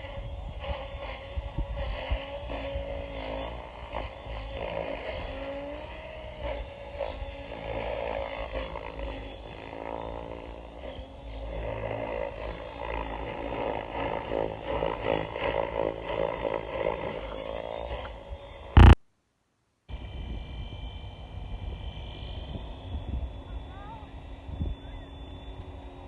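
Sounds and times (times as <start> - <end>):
drone rotors whining: 0.0 - 19.0, 19.9 - 26.0.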